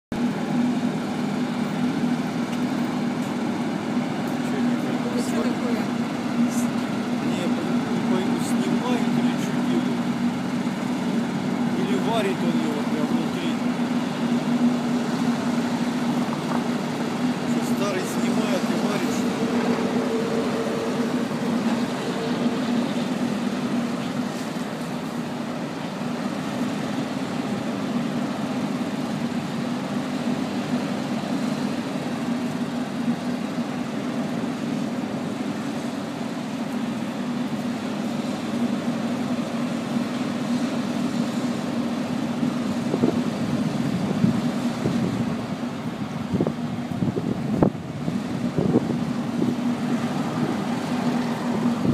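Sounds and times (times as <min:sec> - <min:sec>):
vehicle engine and road noise: 0:00.1 - 0:51.9.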